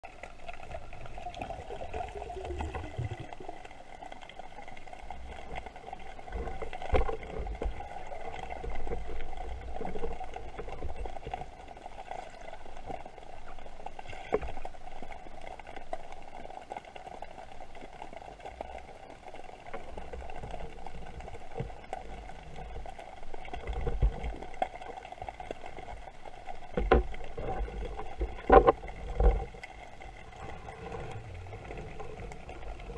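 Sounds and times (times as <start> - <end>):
muffled underwater water movement: 0.0 - 32.9.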